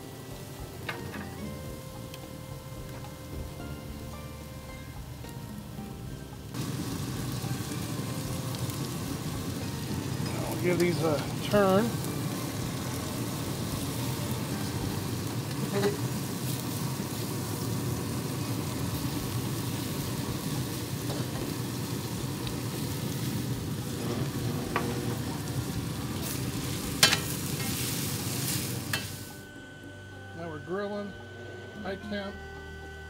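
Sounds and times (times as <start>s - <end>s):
steaks sizzling on grill: 0.0s - 33.0s.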